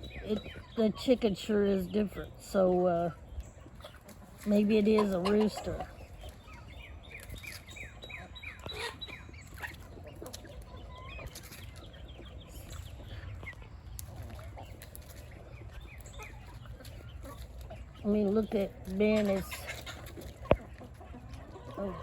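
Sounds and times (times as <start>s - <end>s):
chickens clucking and chirping: 0.0s - 22.0s.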